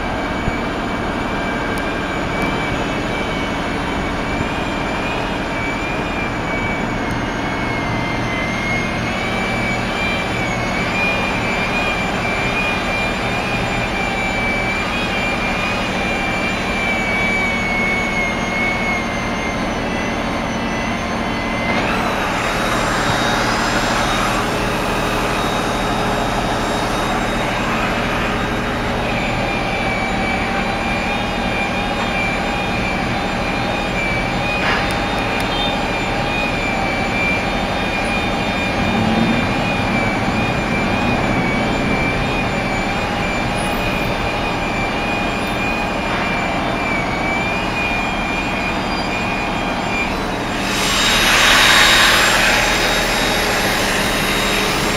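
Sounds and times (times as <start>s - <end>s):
engines idling in traffic: 0.0s - 54.9s
high even whine: 0.0s - 54.9s.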